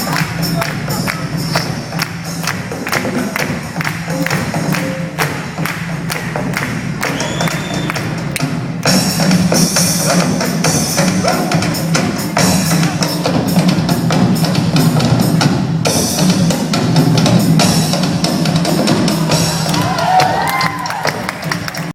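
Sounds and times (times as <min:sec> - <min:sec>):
fast drumming: 0:00.0 - 0:21.9.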